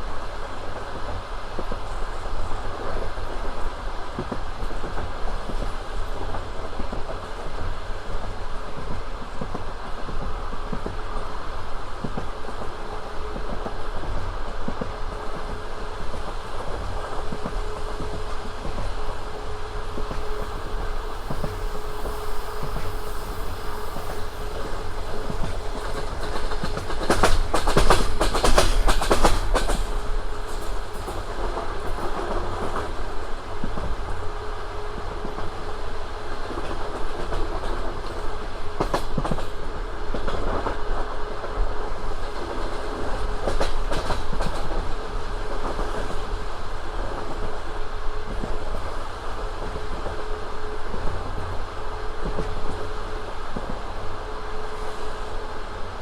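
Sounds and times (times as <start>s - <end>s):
train wheels rumbling: 1.6s - 56.0s.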